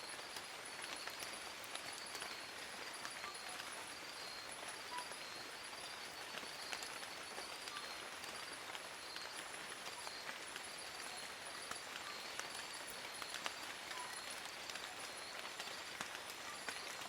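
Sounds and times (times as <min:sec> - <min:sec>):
rain on leaves: 0:00.0 - 0:17.0.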